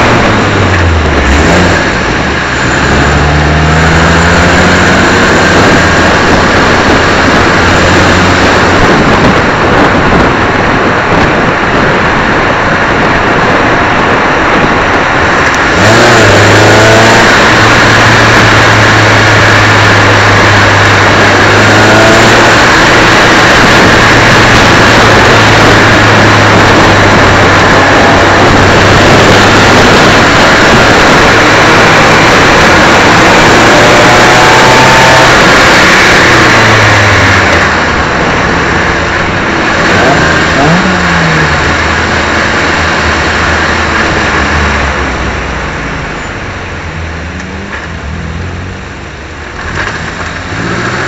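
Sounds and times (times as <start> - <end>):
race car engine: 0.0 - 51.0
wind and road noise: 0.0 - 51.0.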